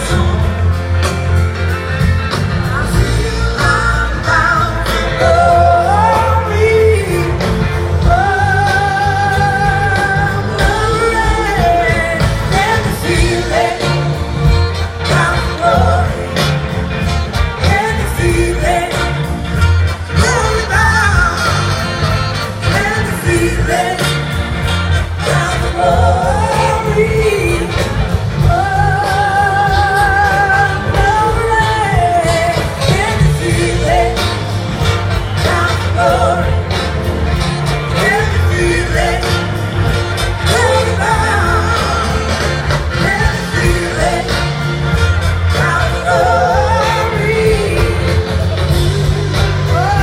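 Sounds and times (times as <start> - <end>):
live rock band with singing: 0.0 - 50.0.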